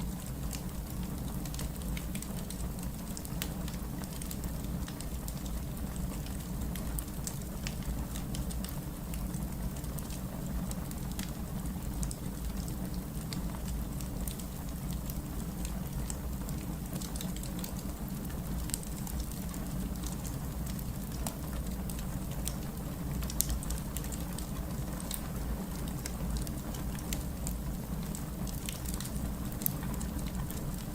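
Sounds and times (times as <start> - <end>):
fireplace fire crackling: 0.0 - 30.9.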